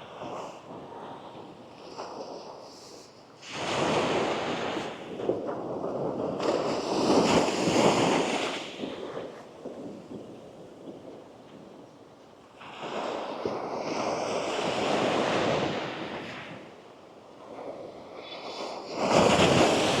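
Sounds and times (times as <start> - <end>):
wave breaking on beach: 0.0 - 10.8, 12.6 - 20.0.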